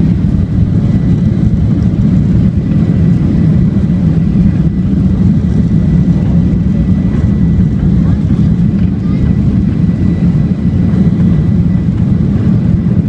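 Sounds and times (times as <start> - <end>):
jet engine deep rumble: 0.0 - 13.0.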